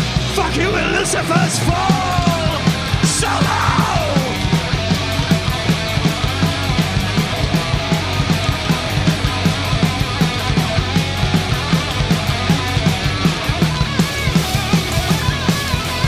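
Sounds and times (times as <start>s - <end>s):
bass guitar: 0.0s - 16.0s
distorted electric guitars: 0.0s - 16.0s
fast drumming: 0.0s - 16.0s.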